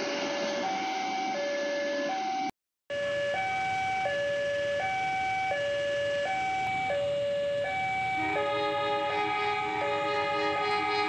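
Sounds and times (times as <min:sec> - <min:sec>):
level crossing two-tone alarm: 0:00.5 - 0:11.0.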